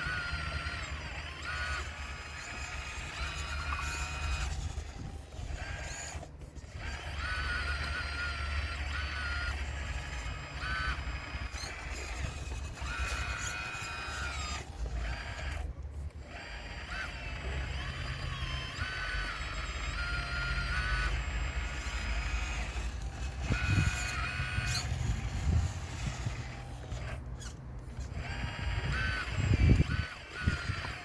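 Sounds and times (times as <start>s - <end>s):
hydraulic pump and motors whining: 0.0s - 31.0s
steady low hum: 0.0s - 31.0s.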